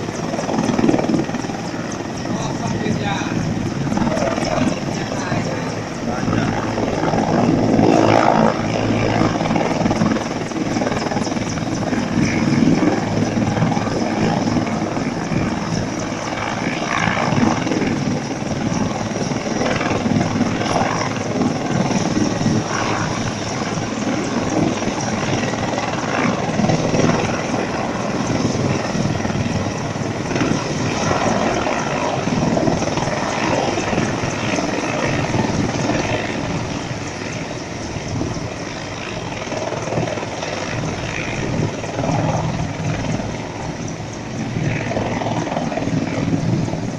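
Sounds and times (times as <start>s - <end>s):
helicopter engines and rotors: 0.0s - 46.9s.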